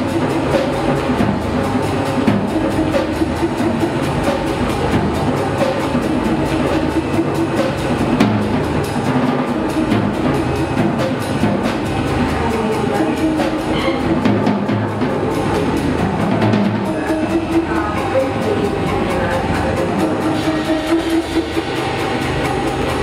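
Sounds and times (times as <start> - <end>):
drum kit hits: 0.0 - 23.0
rock band jamming: 0.0 - 23.0.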